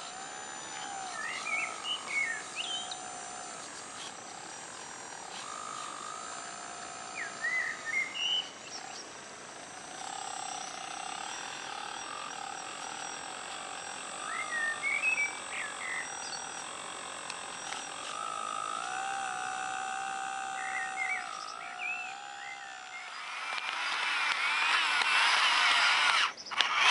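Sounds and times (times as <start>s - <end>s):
birds chirping: 0.0s - 9.2s, 10.5s - 26.9s
electric whine of model excavator: 0.0s - 26.9s.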